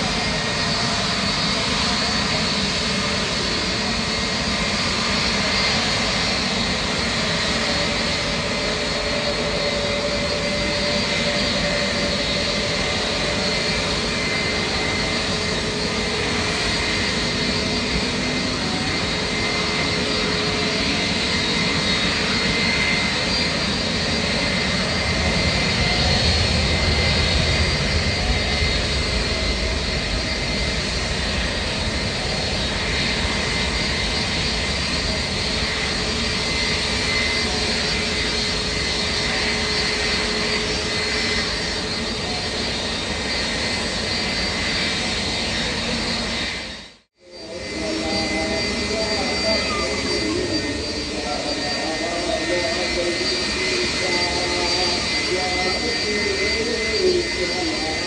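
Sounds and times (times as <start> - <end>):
jet engines whining and roaring: 0.0 - 58.0.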